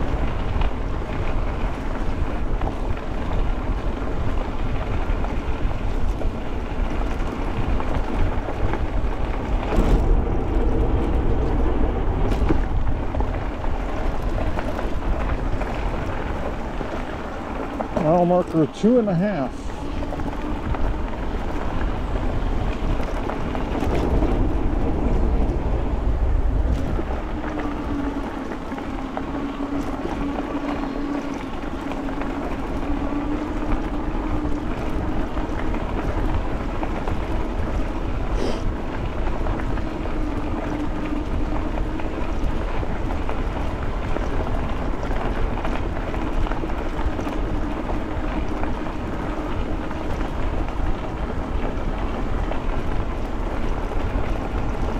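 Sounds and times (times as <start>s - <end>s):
bike tyres and drivetrain humming: 0.0s - 54.9s
wind rushing over microphone: 0.0s - 54.9s.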